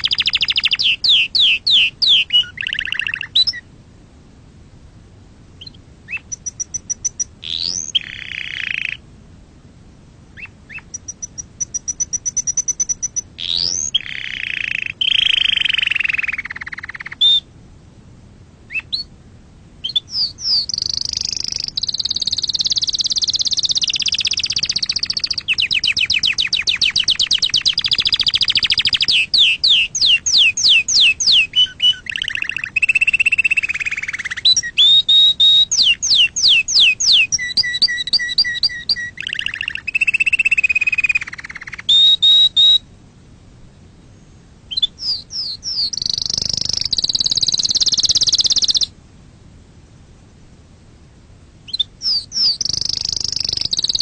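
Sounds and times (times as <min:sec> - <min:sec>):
canary singing trills: 0:00.0 - 0:03.7, 0:05.6 - 0:09.1, 0:10.4 - 0:17.5, 0:18.7 - 0:19.2, 0:19.8 - 0:42.9, 0:44.0 - 0:48.9, 0:51.6 - 0:54.0.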